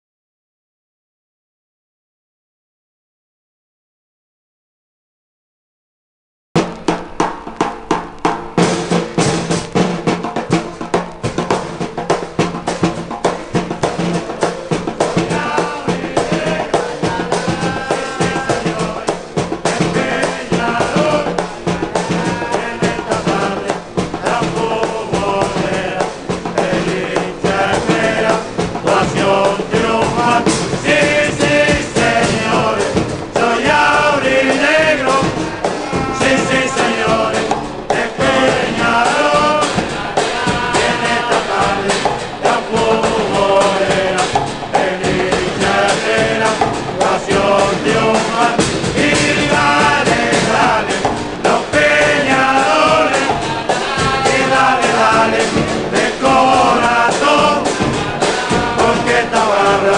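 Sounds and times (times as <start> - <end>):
steady drum beat: 6.6 - 59.9.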